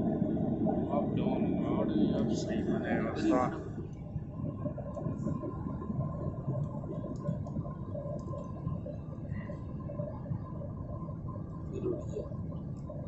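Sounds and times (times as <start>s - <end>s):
faint steady hum: 0.0s - 13.0s
jet engine rumble: 0.0s - 13.0s.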